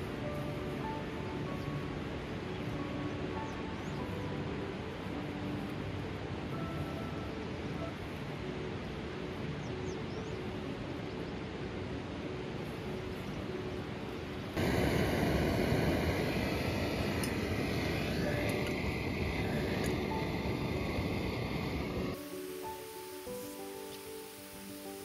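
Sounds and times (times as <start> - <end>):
faint music notes: 0.0 - 25.0
steady rushing noise: 0.0 - 25.0.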